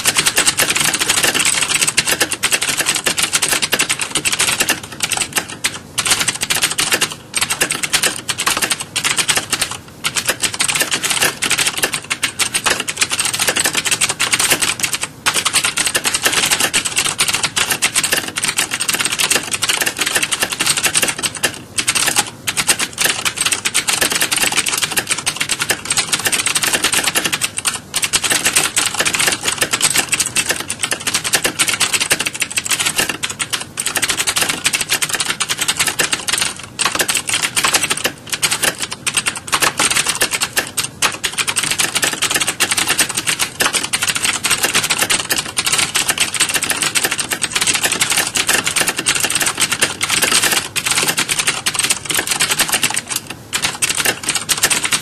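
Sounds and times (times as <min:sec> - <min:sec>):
typing on mechanical keyboard: 0:00.0 - 0:55.0.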